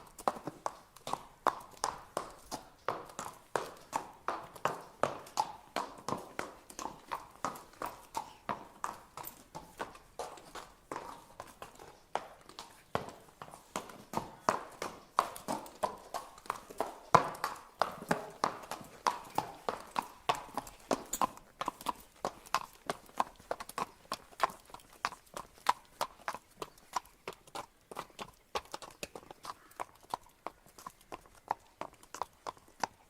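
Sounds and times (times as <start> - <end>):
horse hooves walking: 0.0 - 33.0.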